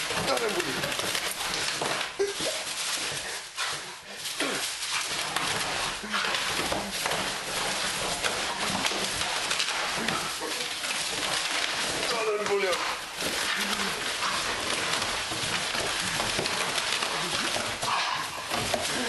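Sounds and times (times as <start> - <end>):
cardboard ripping and crackling: 0.0 - 3.1, 4.3 - 19.0.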